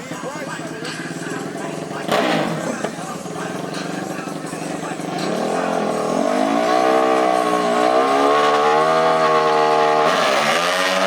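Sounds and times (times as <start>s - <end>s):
racing engine revving: 0.9s - 11.0s.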